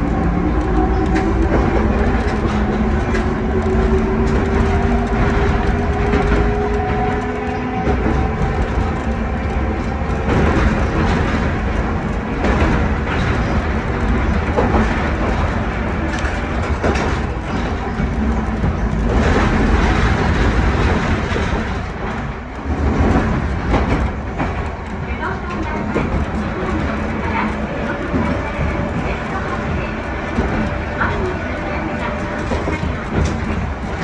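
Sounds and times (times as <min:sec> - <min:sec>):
tram rumbling along track: 0:00.0 - 0:34.0
wheels clacking over rail joints: 0:00.0 - 0:34.0.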